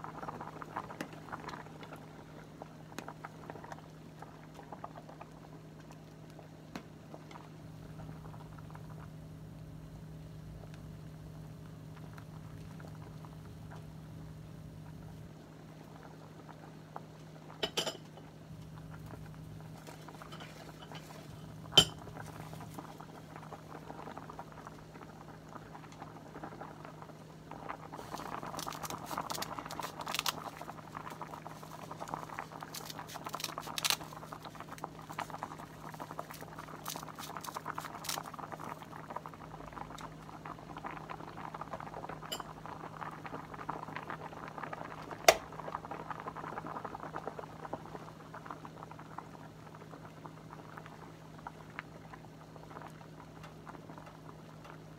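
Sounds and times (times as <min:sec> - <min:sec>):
soup boiling and bubbling: 0:00.0 - 0:54.9.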